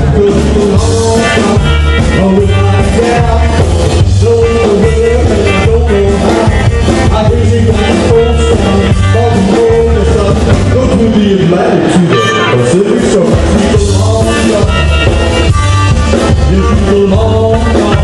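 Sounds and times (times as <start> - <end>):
pulsing bass beat: 0.0 - 18.0.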